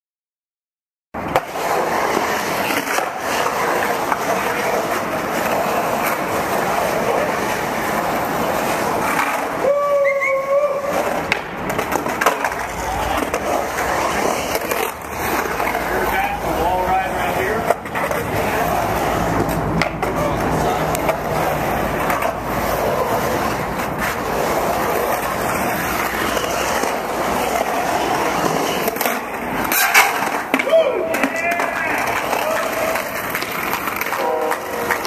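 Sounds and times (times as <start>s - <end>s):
skateboard clacks: 1.2s - 35.0s
skateboard wheels rolling on concrete: 1.2s - 35.0s.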